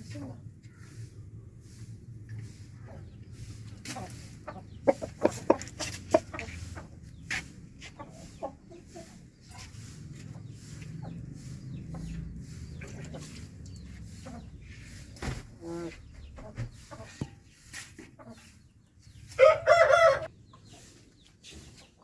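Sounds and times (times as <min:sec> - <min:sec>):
chickens clucking: 0:01.6 - 0:22.0.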